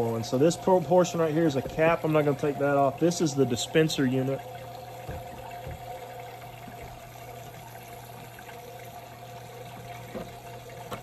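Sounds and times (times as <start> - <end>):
pump low hum: 0.0 - 11.0
water trickling and splashing: 0.0 - 11.0.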